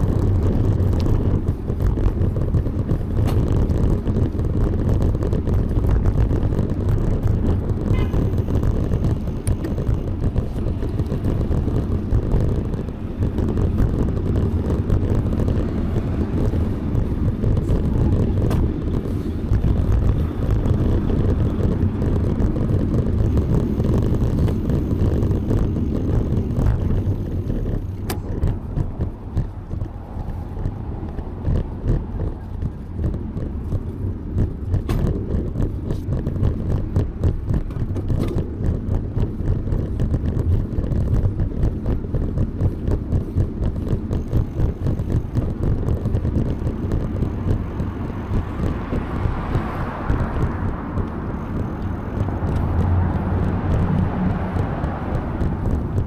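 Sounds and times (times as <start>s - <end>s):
road traffic noise: 0.0s - 56.0s
wind buffeting microphone: 0.0s - 56.0s.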